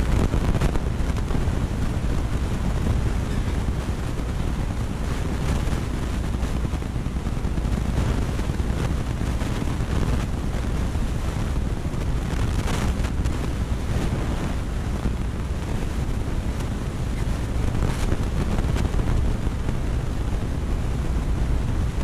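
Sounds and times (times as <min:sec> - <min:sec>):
low hum of tank pump: 0:00.0 - 0:22.0.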